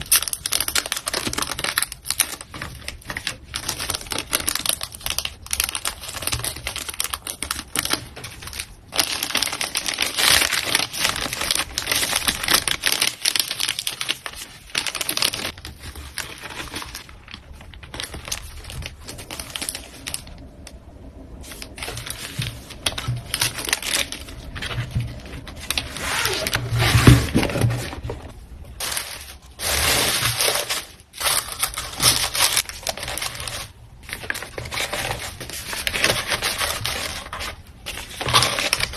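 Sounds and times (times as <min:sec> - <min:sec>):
packing materials crinkling: 0:00.0 - 0:38.9.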